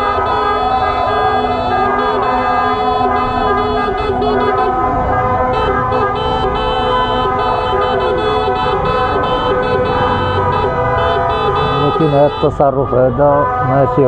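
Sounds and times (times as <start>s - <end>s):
car horns honking: 0.0s - 14.0s.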